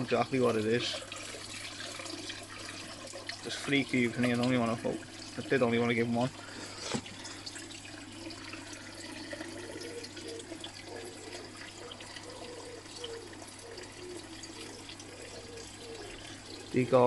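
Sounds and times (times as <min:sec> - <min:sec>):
water pouring into pond: 0:00.0 - 0:17.0.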